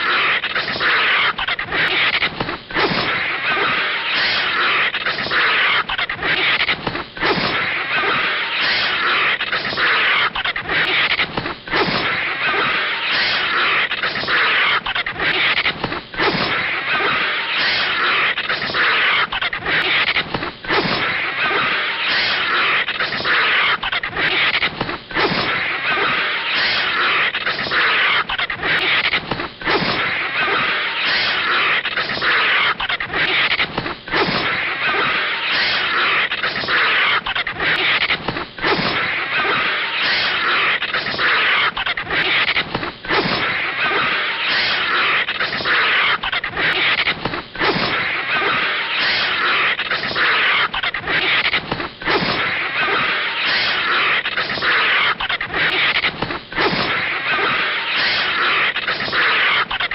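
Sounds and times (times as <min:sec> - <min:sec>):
cartoon snake hissing: 0:00.0 - 0:47.0, 0:47.6 - 0:56.0, 0:56.6 - 0:59.7.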